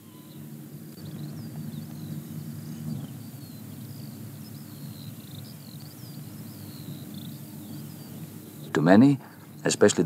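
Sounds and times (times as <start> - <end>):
low steady rumble: 0.0 - 10.0
small birds chirping: 0.0 - 10.0.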